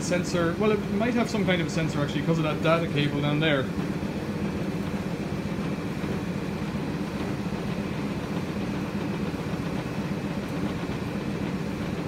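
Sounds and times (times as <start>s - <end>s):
tumble dryer humming: 0.0s - 12.0s.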